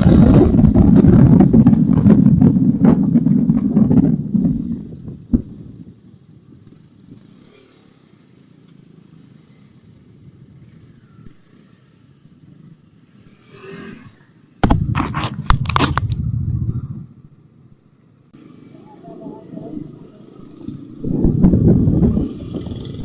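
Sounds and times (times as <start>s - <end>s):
motorcycle engine rumbling: 0.0s - 13.5s, 14.1s - 23.0s.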